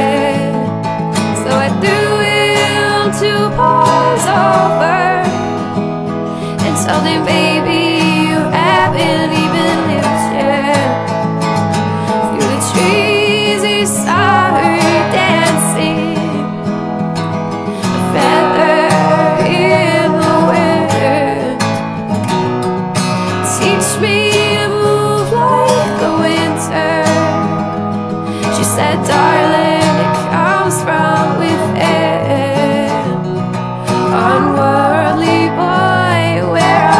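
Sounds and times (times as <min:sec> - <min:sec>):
person singing: 0:00.0 - 0:11.1, 0:11.9 - 0:16.6, 0:17.7 - 0:22.0, 0:23.4 - 0:36.9
strummed acoustic guitar: 0:00.0 - 0:36.9.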